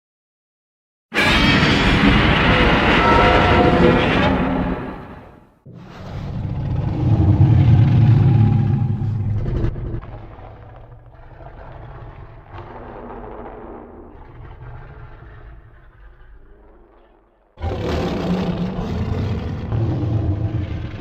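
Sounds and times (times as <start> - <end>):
loud low monster rumble: 1.2 - 21.0.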